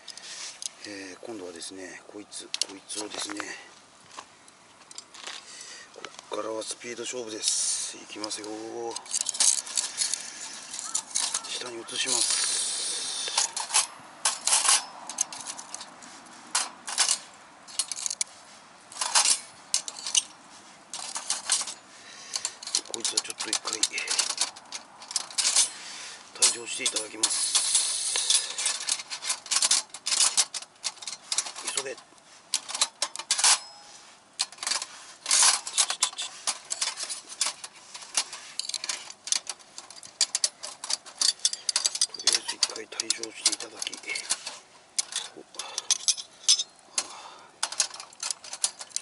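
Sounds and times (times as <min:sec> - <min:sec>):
metal grill parts clinking: 0:06.4 - 0:15.9, 0:16.5 - 0:18.3, 0:18.9 - 0:49.0.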